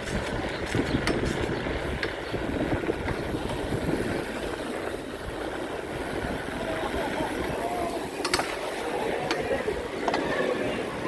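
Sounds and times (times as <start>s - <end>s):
road noise: 0.0s - 11.0s
wind on microphone: 0.0s - 11.0s.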